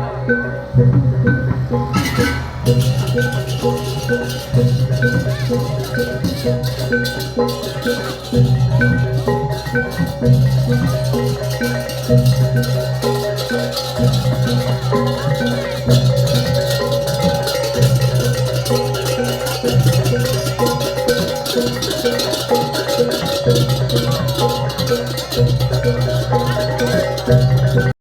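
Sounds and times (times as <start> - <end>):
gamelan metallophones and gongs: 0.0 - 27.9.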